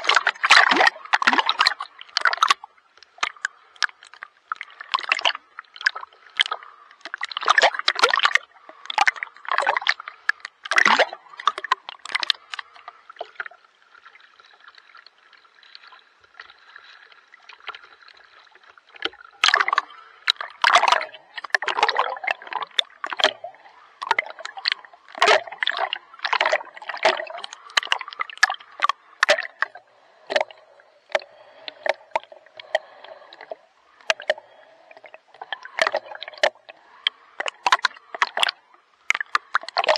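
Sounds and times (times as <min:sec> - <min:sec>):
water splashing from swimming: 0:00.0 - 0:39.9.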